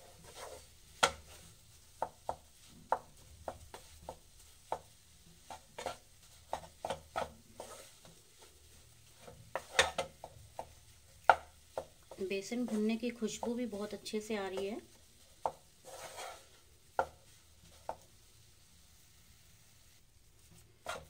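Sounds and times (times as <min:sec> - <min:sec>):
spatula scraping a pan: 0:00.0 - 0:18.2, 0:20.4 - 0:21.0.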